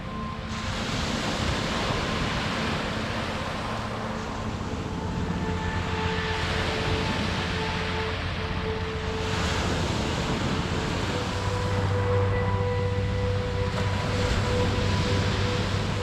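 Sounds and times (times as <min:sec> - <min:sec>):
sea waves washing onto shore: 0:00.0 - 0:16.0
soft background music: 0:00.0 - 0:16.0.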